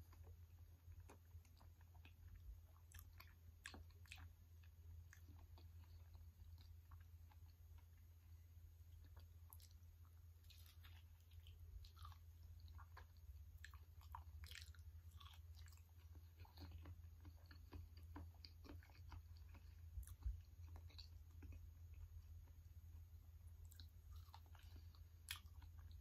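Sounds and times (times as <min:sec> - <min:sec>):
low steady hum: 0:00.0 - 0:26.0
person chewing with wet smacks: 0:00.0 - 0:26.0.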